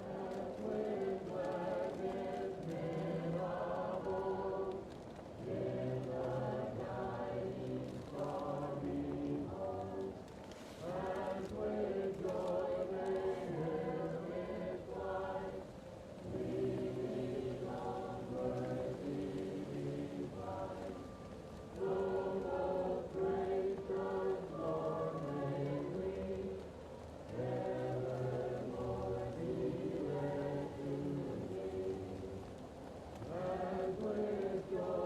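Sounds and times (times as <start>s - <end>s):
fireplace crackling: 0.0s - 35.0s
muffled choir singing: 0.0s - 35.0s.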